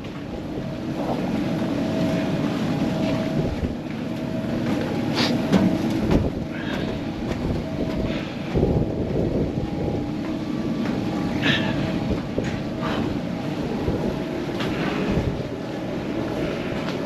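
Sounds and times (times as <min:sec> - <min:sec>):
faint hum: 0:00.0 - 0:17.0
low machinery rumble: 0:00.0 - 0:17.0.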